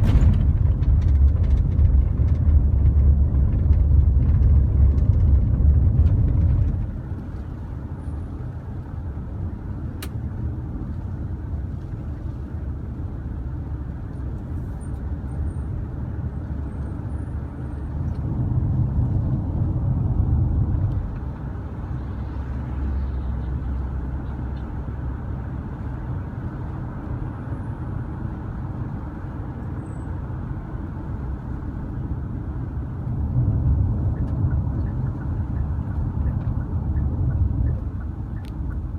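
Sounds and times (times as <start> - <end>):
road traffic rumble: 0.0 - 38.9.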